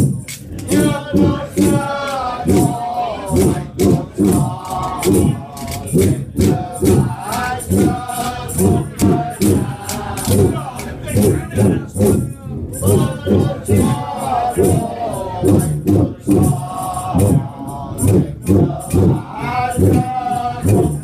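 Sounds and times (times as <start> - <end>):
jingling percussion: 0.0 - 21.0
voices singing folk song: 0.5 - 21.0.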